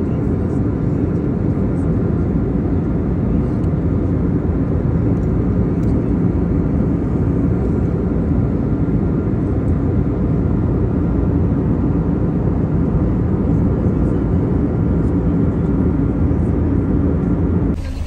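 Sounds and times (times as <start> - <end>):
airliner cabin roar: 0.0 - 18.0.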